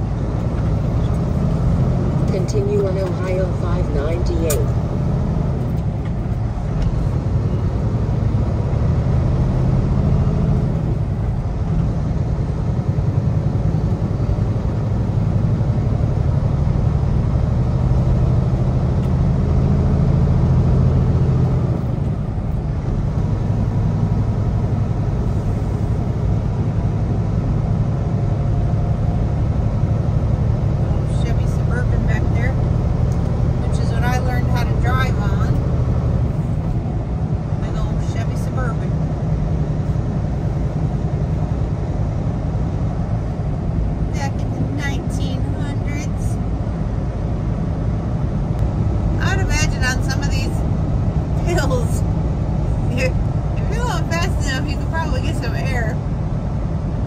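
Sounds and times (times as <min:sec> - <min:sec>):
road noise inside cab: 0:00.0 - 0:57.0
truck diesel engine drone: 0:00.0 - 0:57.0.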